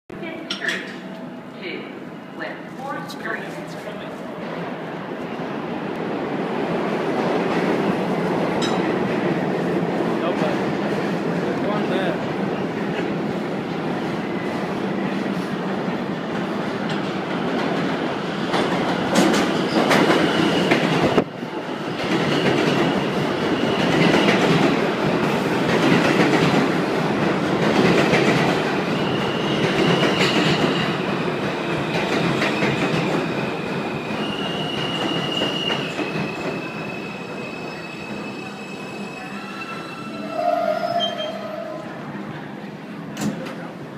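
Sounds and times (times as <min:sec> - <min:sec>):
subway train wheels rumbling on rails: 0:00.2 - 0:43.9.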